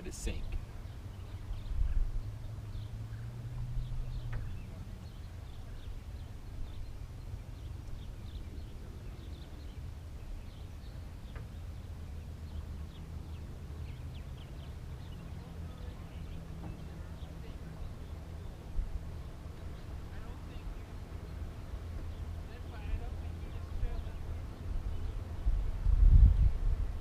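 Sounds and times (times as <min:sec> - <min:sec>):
small birds chirping: 0:00.0 - 0:26.6.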